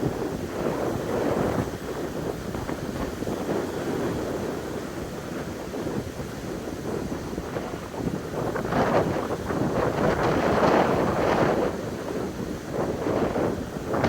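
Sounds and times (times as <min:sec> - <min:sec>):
sea surf washing: 0:00.0 - 0:14.0
wind buffeting microphone: 0:00.0 - 0:14.0.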